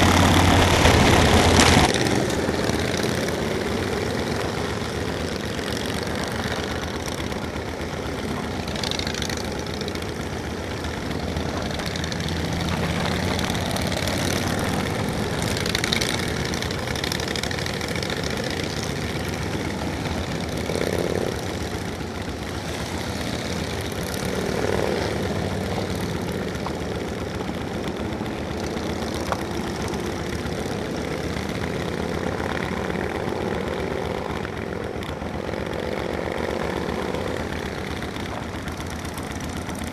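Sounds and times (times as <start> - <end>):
motorcycle engine running: 0.0 - 39.9
road noise rushing: 0.0 - 39.9.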